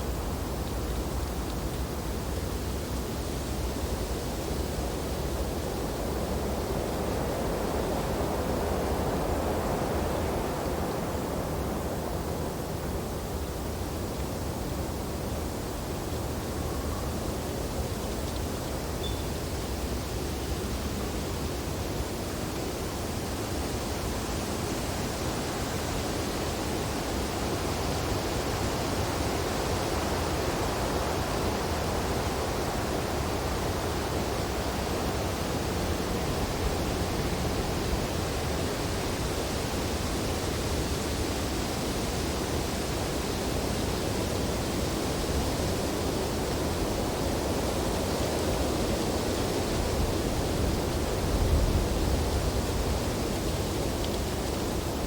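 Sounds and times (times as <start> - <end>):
wind through tree branches: 0.0 - 55.0.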